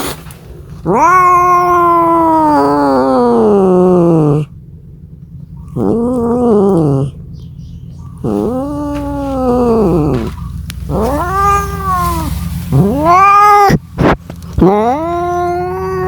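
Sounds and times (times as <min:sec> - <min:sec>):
cat meowing: 0:00.8 - 0:04.5, 0:05.7 - 0:07.2, 0:08.2 - 0:16.0.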